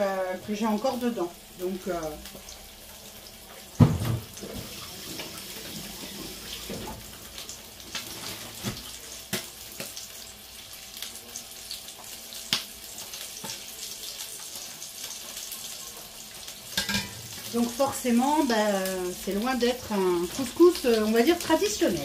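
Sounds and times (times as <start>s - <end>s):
chicken sizzling in a pot: 0.0s - 22.0s.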